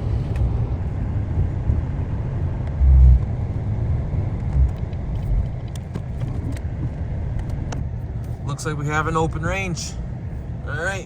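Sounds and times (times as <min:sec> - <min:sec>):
vehicle road rumble inside cabin: 0:00.0 - 0:11.0.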